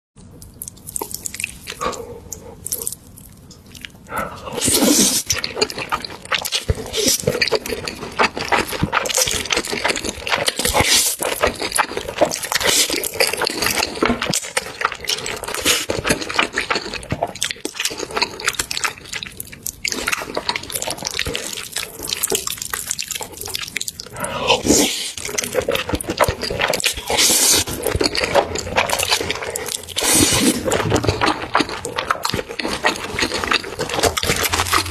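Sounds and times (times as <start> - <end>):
wet chewing and mouth clicks: 0.2 - 34.9.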